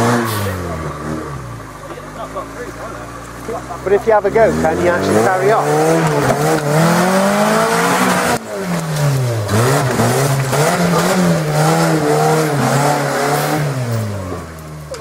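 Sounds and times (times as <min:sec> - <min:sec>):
engine revving hard: 0:00.0 - 0:14.6.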